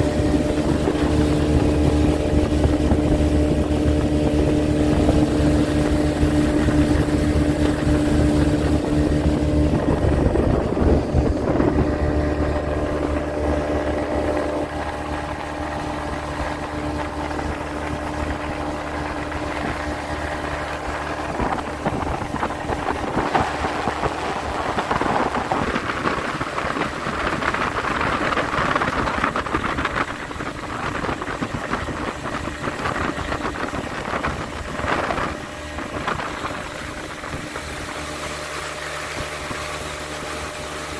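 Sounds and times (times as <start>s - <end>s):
speedboat engine running: 0.0s - 40.9s
water rushing against hull: 0.0s - 40.9s
wind on microphone: 0.0s - 40.9s.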